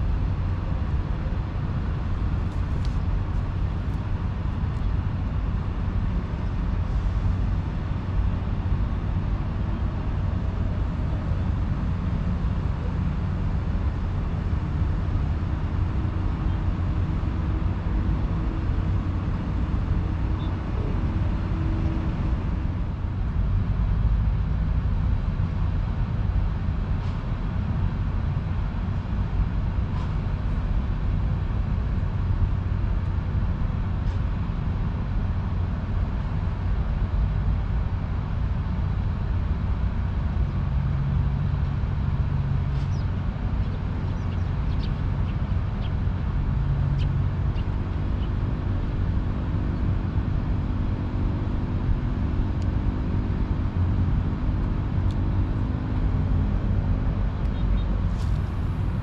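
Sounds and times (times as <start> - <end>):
faint engine drone: 0.0 - 59.0
low outdoor rumble: 0.0 - 59.0.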